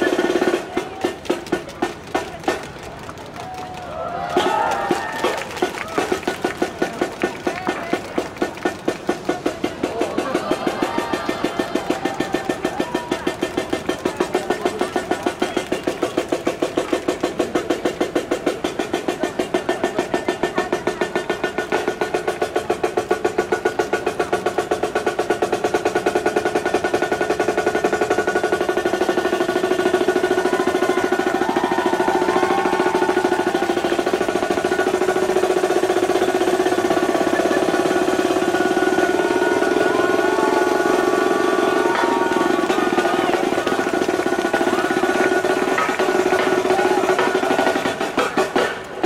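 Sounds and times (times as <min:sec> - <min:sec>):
snare drum played with sticks: 0:00.0 - 0:03.4, 0:04.3 - 0:49.0.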